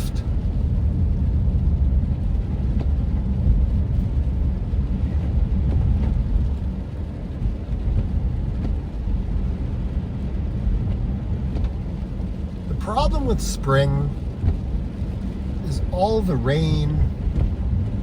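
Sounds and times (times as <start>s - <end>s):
car driving on wet road: 0.0s - 18.0s.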